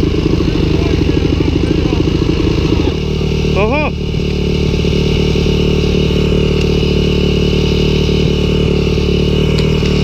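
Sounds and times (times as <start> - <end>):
dirt bike engines idling: 0.0 - 10.0.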